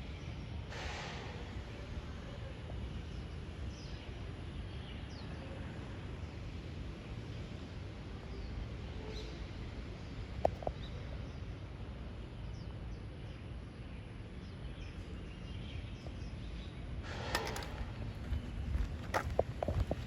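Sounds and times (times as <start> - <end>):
low rumble of wind: 0.0 - 20.0.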